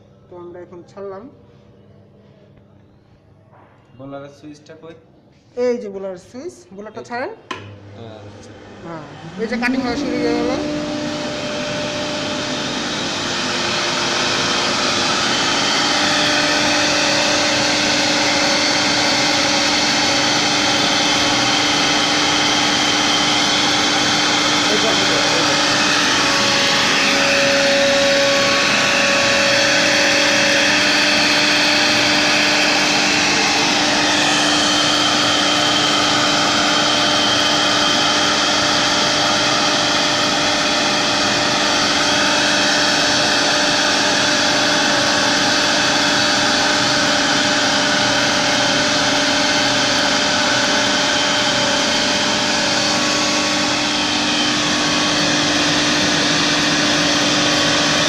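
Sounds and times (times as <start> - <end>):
dust collector blower: 7.5 - 58.0
router spindle whine and cutting: 8.5 - 58.0.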